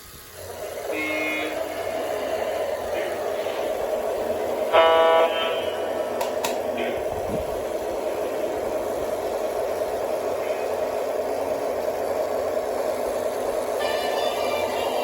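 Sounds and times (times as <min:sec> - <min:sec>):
model train humming on track: 0:00.0 - 0:15.0.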